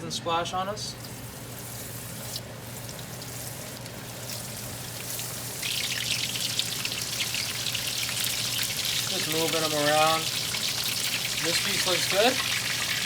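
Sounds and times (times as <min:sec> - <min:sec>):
cutlet sizzling in hot oil: 0:00.9 - 0:13.0.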